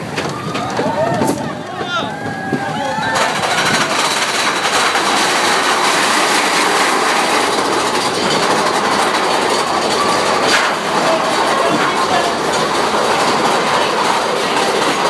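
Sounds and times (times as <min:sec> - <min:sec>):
roller coaster rattling on track: 0:00.0 - 0:15.0.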